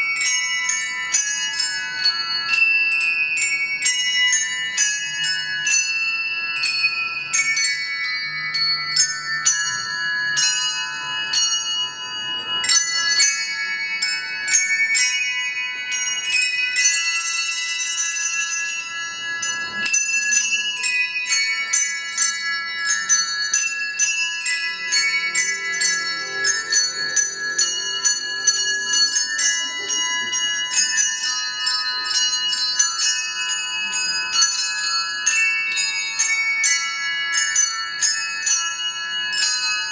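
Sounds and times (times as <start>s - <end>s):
handbell choir ringing chords: 0.0s - 39.9s.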